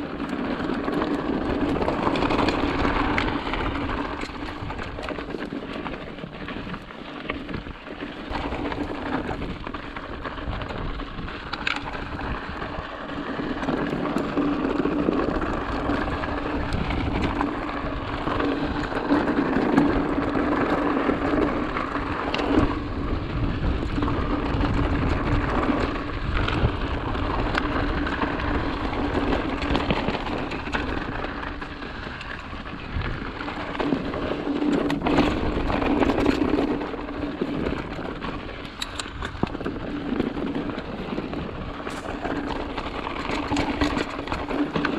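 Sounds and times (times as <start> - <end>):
bike rattles and clicks: 0.0 - 44.9
tyre noise on loose dirt: 0.0 - 44.9.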